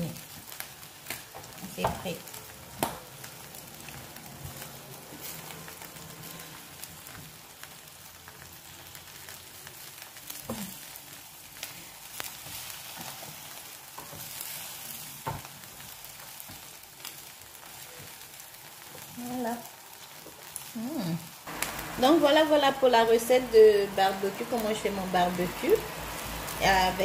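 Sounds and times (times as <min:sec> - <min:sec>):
chicken sizzling on grill: 0:00.0 - 0:27.0.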